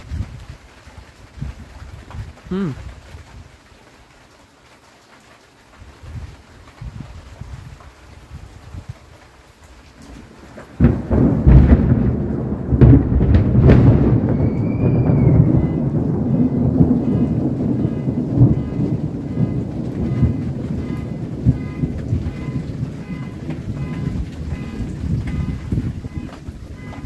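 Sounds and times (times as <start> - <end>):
thunder crack and rumble: 0.0 - 3.8, 4.7 - 27.0.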